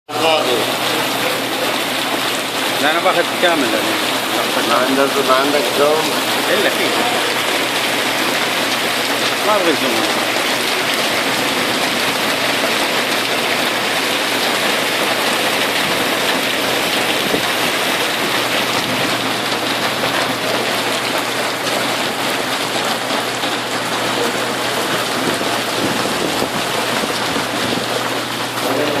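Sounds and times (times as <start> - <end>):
heavy rain on hard ground: 0.1 - 29.0.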